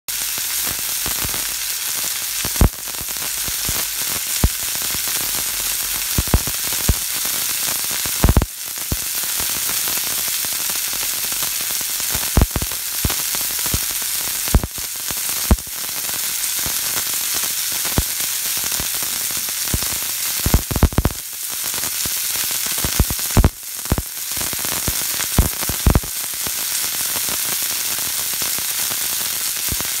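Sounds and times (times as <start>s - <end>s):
patties sizzling in fat: 0.1s - 30.0s.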